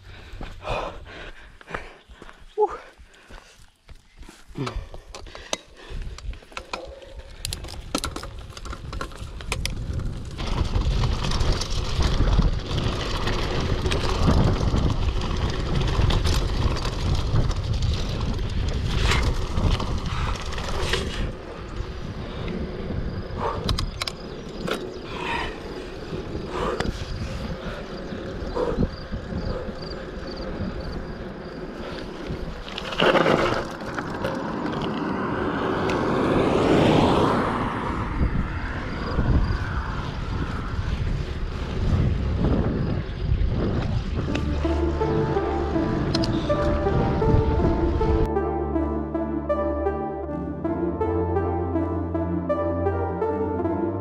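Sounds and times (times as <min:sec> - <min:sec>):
bike rolling over dirt: 0:03.2 - 0:48.3
bike rattling over bumps: 0:03.4 - 0:48.3
wind rushing over microphone: 0:04.6 - 0:48.3.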